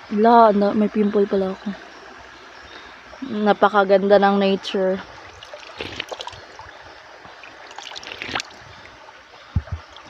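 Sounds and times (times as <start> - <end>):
water trickling and gurgling: 0.0 - 10.0.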